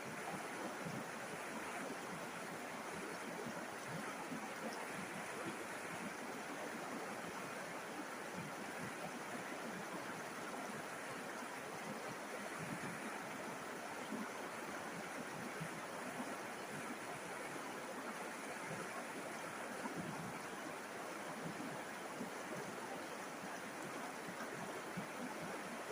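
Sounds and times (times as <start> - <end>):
river water flowing over stones: 0.0 - 25.9.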